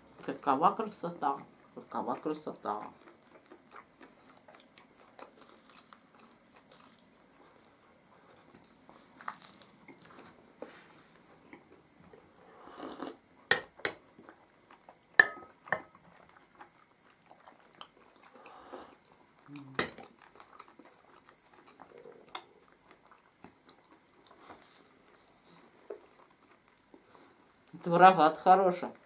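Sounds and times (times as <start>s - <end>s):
chewing pastry: 0.1s - 13.4s, 14.0s - 28.0s.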